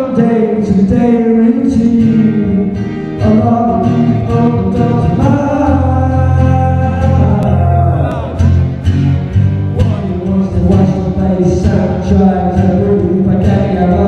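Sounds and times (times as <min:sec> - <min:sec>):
man singing into microphone: 0:00.0 - 0:08.5, 0:09.7 - 0:14.0
acoustic guitar: 0:00.0 - 0:14.0.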